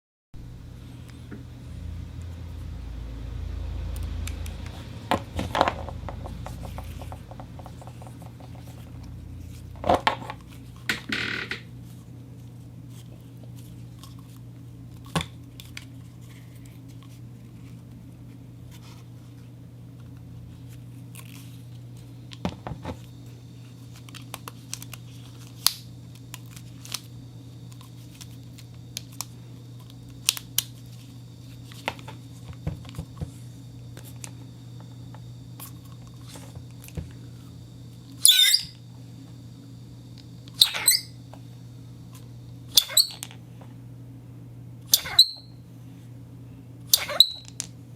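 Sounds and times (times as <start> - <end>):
steady low hum: 0.4 - 47.9.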